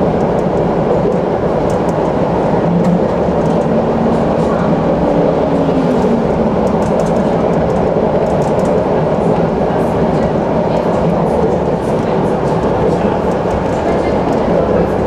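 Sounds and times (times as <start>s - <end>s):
tram motor tone: 0.0s - 15.0s
tram wheels rumbling on rails: 0.0s - 15.0s.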